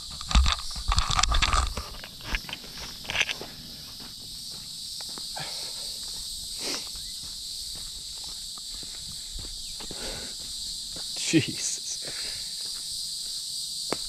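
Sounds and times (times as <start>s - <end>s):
footsteps on dirt path: 0.0s - 14.0s
insects buzzing: 0.0s - 14.0s.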